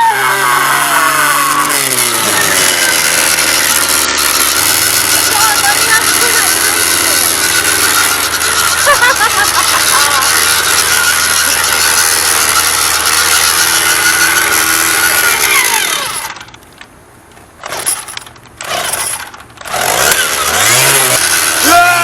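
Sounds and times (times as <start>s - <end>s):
motor-driven tool running: 0.1s - 16.8s, 17.6s - 22.0s.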